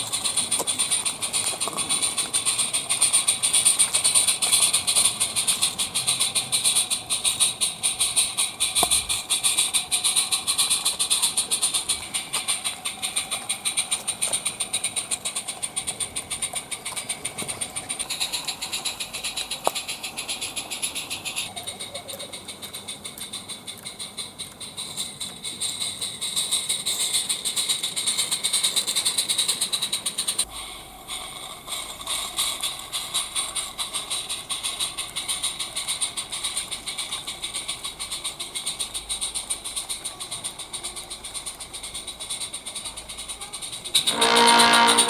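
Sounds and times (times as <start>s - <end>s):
model steam locomotive chuffing: 0.0s - 45.0s
steady steam hiss: 0.0s - 45.0s.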